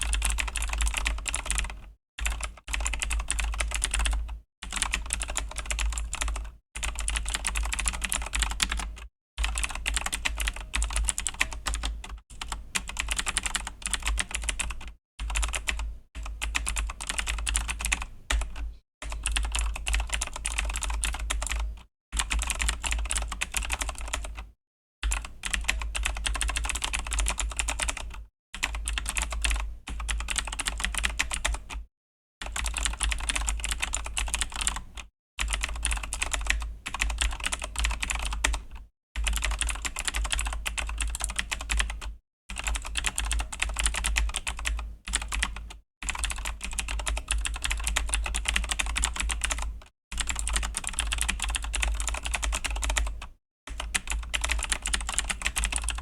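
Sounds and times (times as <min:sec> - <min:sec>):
fast typing on clicky keyboard: 0:00.0 - 0:31.8, 0:32.4 - 0:56.0.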